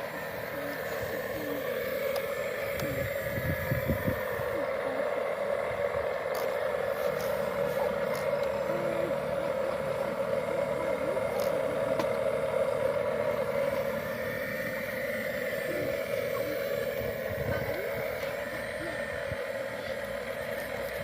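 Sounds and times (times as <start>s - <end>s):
toy electric motor whining: 0.0s - 21.0s.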